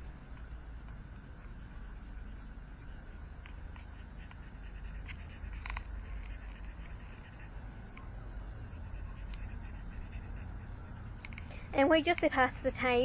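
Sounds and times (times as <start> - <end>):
steady low hum: 0.0 - 13.0
marker pen scratching on paper: 0.3 - 12.7.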